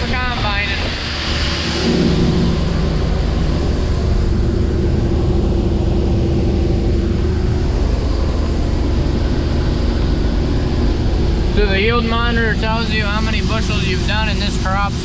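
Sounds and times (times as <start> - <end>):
combine harvester droning: 0.0 - 15.0.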